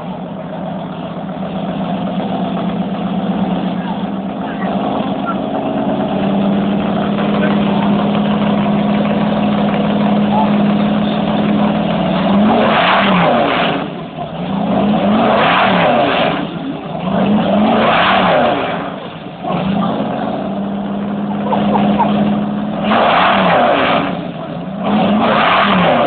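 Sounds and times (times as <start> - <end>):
pickup truck engine revving: 0.0 - 26.0.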